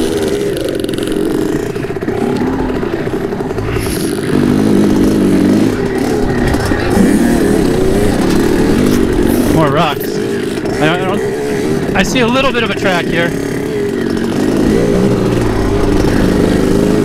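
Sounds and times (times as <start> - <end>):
dirt bike engine: 0.0 - 17.0.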